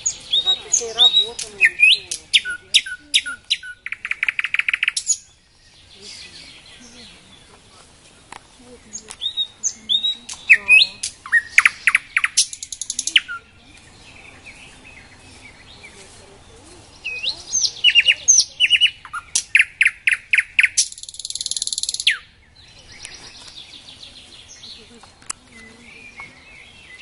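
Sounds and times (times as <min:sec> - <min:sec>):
nightingale singing: 0:00.0 - 0:27.0.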